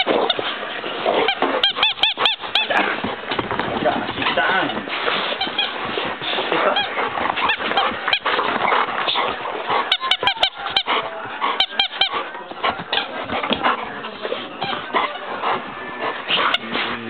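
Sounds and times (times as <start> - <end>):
rubber balloons squeaking: 0.0 - 17.0.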